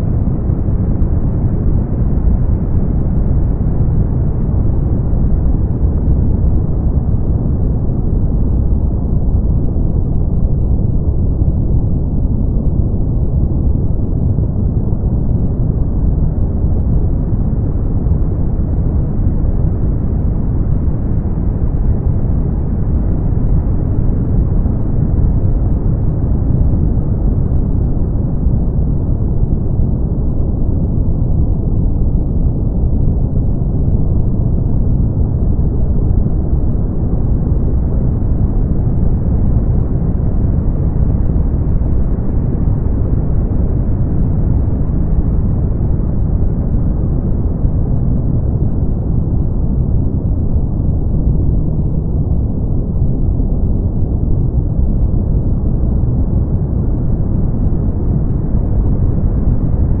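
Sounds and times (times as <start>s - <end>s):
brown noise deep rushing: 0.0s - 60.0s.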